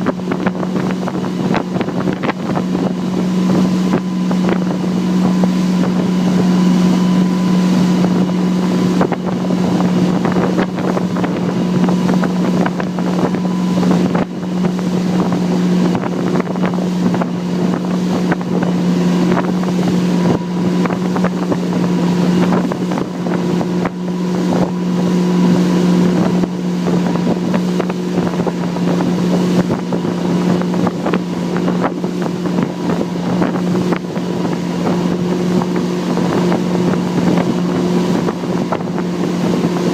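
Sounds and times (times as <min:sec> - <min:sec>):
motorboat engine running: 0:00.0 - 0:39.9
wind buffeting microphone: 0:00.0 - 0:39.9.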